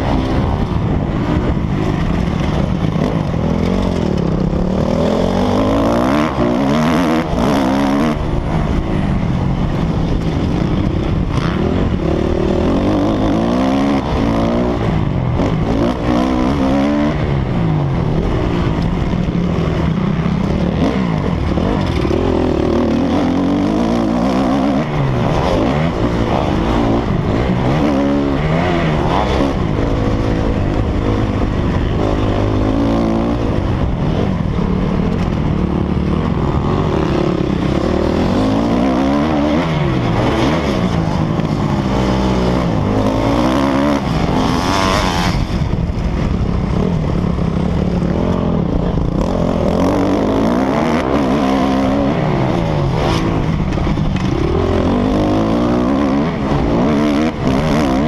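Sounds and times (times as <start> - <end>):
motocross bike engine revving: 0.0 - 58.0
wind noise: 0.0 - 58.0.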